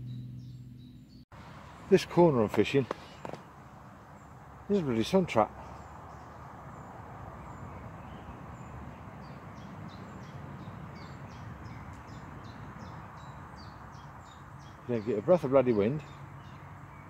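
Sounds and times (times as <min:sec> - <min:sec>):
small bird chirping: 0:00.0 - 0:02.0, 0:02.7 - 0:17.0.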